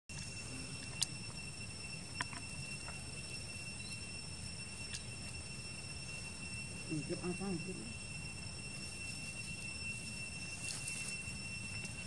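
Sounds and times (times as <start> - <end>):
insect trilling: 0.1 - 12.0.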